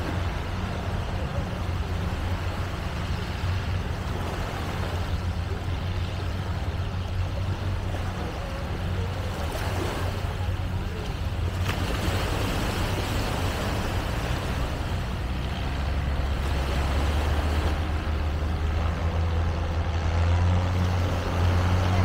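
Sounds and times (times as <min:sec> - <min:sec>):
engine low rumble: 0:00.0 - 0:22.0
outdoor background noise: 0:00.0 - 0:22.0.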